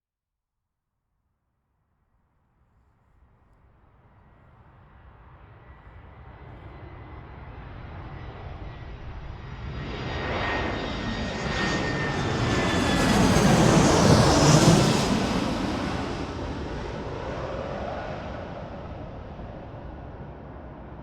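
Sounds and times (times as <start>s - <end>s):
jet airplane engine noise: 3.8s - 21.0s.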